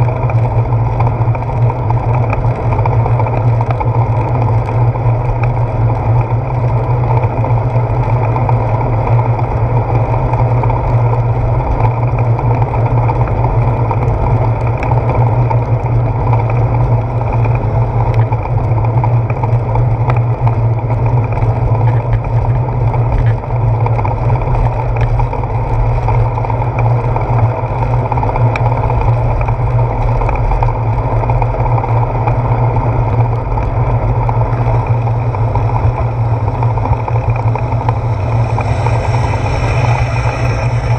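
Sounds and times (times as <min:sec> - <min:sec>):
wind and road rumble: 0:00.0 - 0:40.9.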